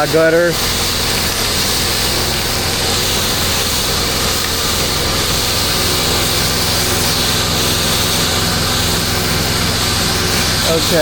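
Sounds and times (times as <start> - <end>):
pressure washer engine running: 0.0 - 11.0
water spraying hiss: 0.0 - 11.0.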